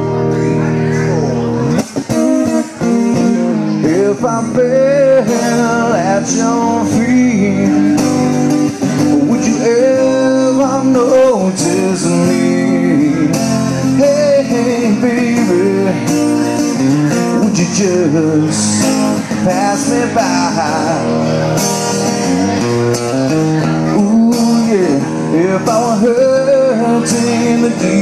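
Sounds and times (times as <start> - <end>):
acoustic guitar strumming: 0.0 - 28.0
man singing: 3.1 - 22.7, 23.4 - 28.0.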